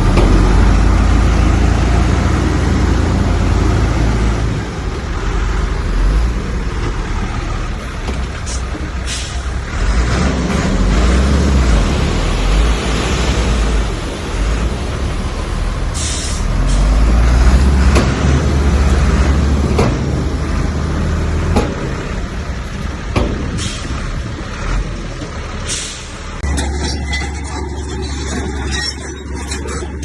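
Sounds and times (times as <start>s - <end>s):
diesel machinery engine rumble: 0.0s - 30.0s.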